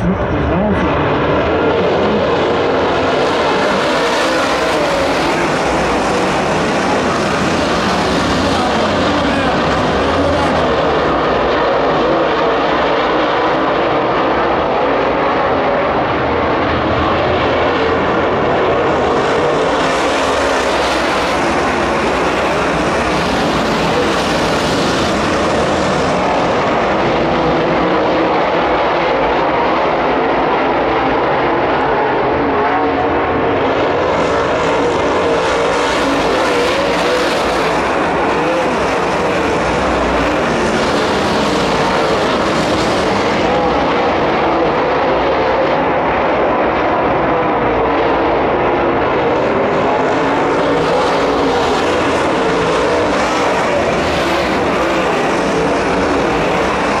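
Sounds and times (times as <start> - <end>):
race car engines droning: 0.0 - 57.0.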